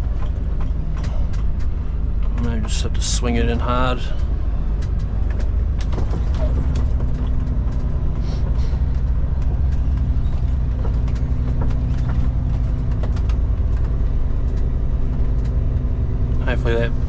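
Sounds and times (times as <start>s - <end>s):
light clicks and rattles: 0.0s - 17.0s
truck diesel engine running: 0.0s - 17.0s.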